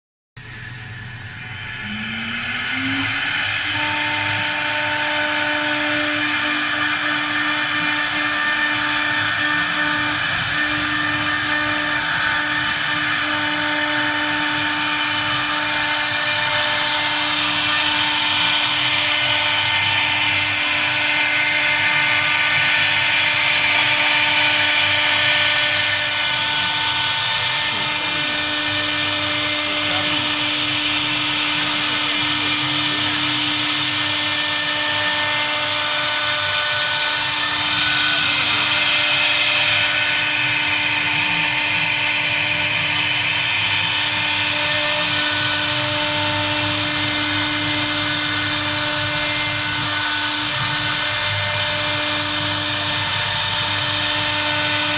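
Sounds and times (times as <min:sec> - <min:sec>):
router spindle whine: 0:00.4 - 0:54.9.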